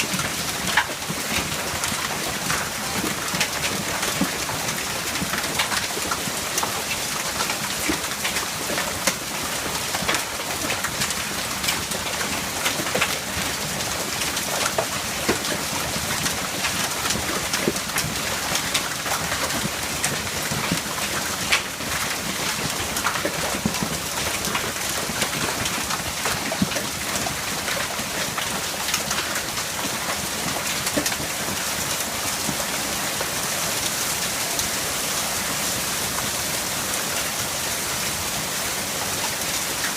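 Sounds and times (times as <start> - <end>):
hailstones pattering: 0.0 - 39.9
sharp hail hits clicking: 0.1 - 9.3, 10.0 - 33.2.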